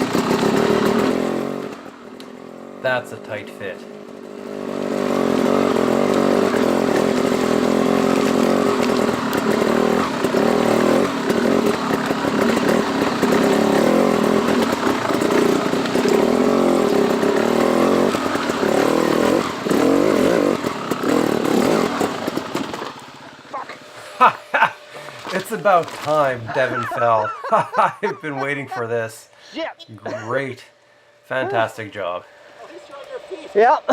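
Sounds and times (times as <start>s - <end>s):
dirt bike engine running: 0.0s - 29.4s, 30.1s - 33.9s.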